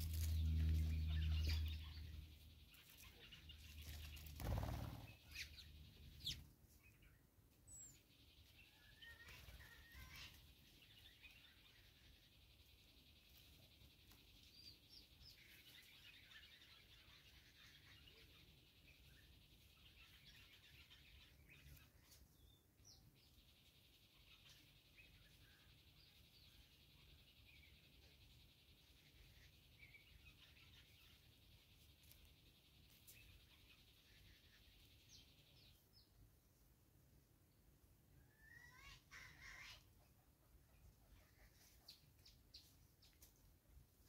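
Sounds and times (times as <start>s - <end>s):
birds chirping and twittering: 0.0s - 44.0s.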